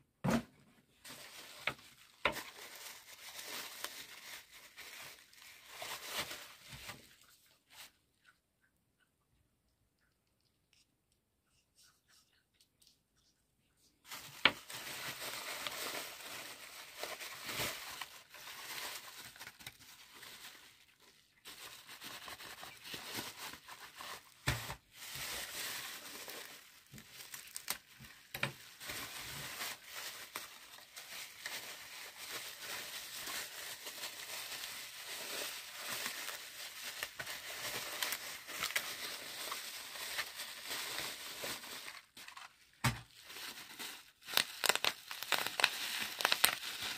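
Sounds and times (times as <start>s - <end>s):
bubble wrap crinkling: 0.9s - 8.0s, 14.0s - 46.9s.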